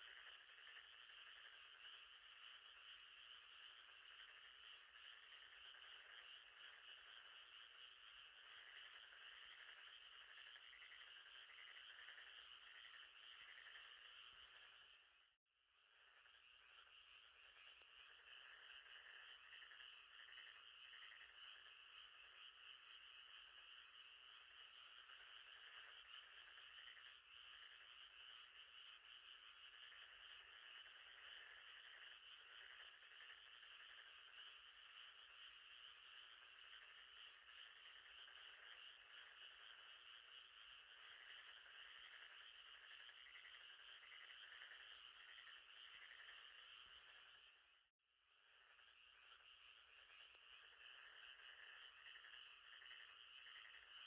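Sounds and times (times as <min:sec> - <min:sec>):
frogs calling: 0:00.0 - 0:15.2, 0:15.9 - 0:47.8, 0:48.4 - 0:54.0.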